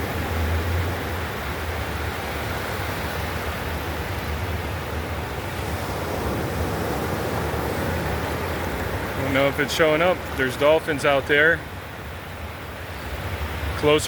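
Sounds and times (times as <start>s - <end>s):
wind buffeting microphone: 0.0s - 13.8s
ocean surf breaking on beach: 0.0s - 14.0s.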